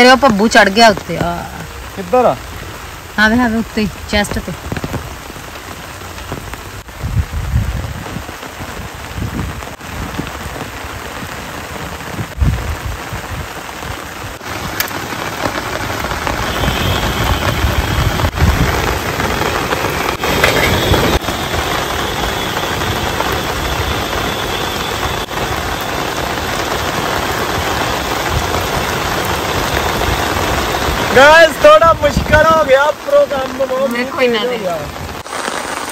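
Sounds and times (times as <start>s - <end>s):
heavy rain pattering on tent: 0.0s - 35.9s.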